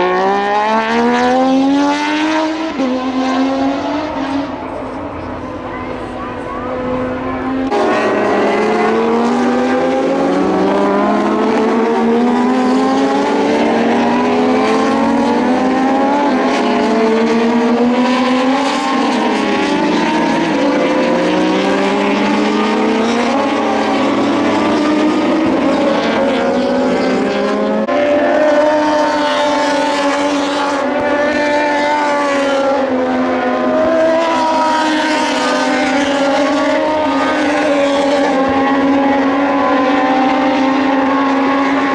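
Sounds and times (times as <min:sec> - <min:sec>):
racing motorcycles revving: 0:00.0 - 0:41.9.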